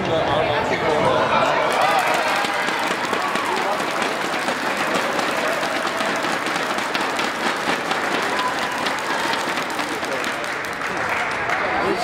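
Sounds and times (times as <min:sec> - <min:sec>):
crowd voices: 0:00.0 - 0:12.0
crowd applauding: 0:01.6 - 0:12.0.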